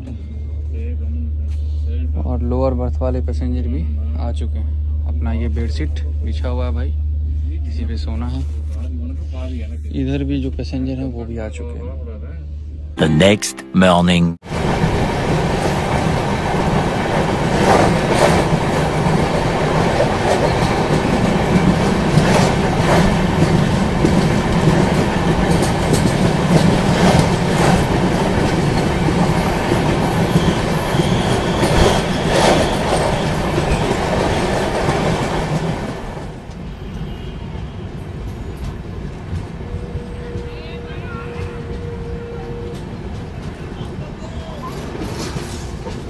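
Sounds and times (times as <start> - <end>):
train rumble and rush: 0.0 - 12.8, 14.5 - 46.0.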